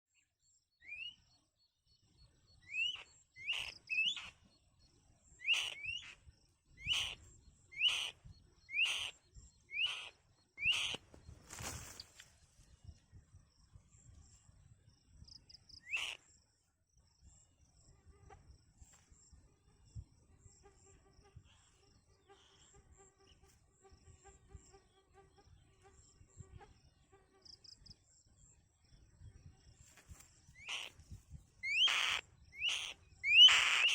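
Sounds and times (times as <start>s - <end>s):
faint high-pitched insect tone: 0.1s - 33.9s.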